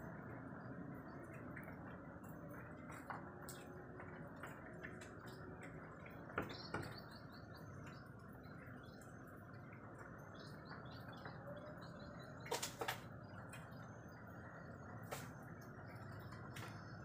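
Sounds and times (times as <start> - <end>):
light drips: 0.0 - 17.0.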